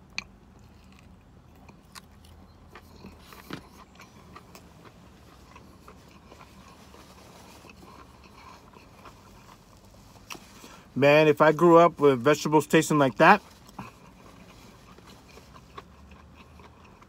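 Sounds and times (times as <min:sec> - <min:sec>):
sandwich bite crunch: 0:00.0 - 0:11.6, 0:12.2 - 0:17.0
chewing with small crunches: 0:00.0 - 0:17.0.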